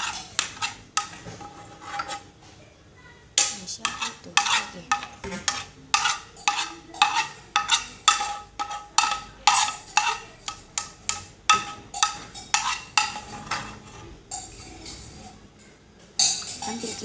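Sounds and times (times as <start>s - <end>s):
spoon scraping a metal pan: 0.0s - 2.4s, 3.4s - 15.4s, 16.2s - 17.0s.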